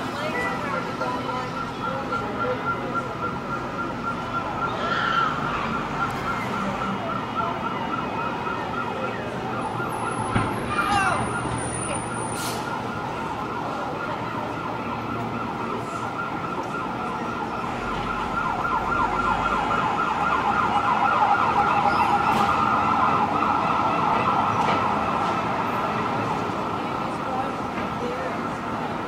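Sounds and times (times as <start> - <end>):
emergency vehicle siren: 0.0 - 29.0.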